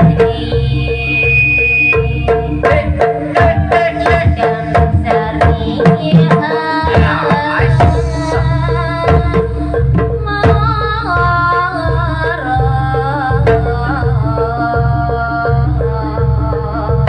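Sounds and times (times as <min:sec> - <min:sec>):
hand drums: 0:00.0 - 0:17.0
wavering melody line: 0:00.0 - 0:17.0.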